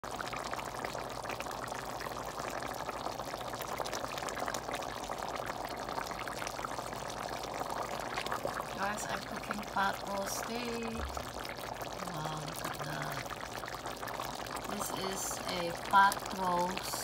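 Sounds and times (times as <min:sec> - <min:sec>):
broth bubbling in a pot: 0:00.0 - 0:17.0.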